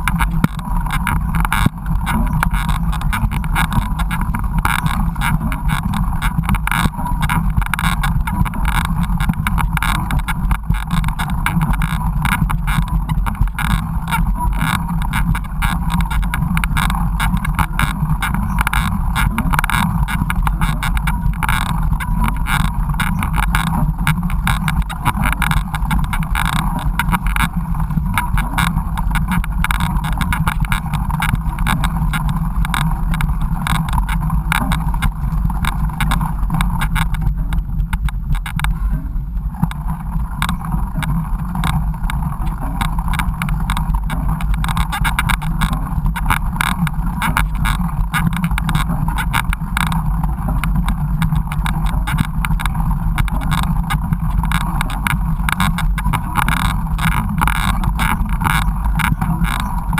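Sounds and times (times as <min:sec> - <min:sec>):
bike rumbling over rough trail: 0:00.0 - 0:59.9.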